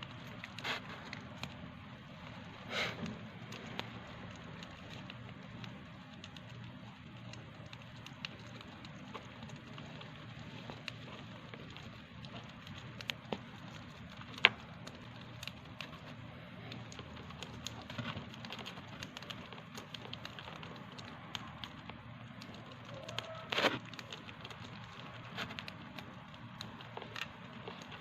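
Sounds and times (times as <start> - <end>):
hamster crunching seeds: 0.0 - 28.0
steady low hum: 0.0 - 28.0.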